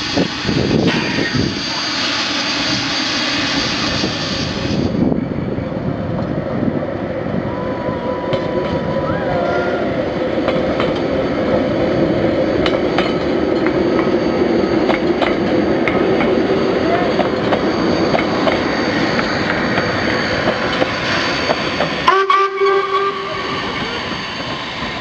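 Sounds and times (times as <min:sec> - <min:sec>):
train rumbling on track: 0:00.0 - 0:25.0.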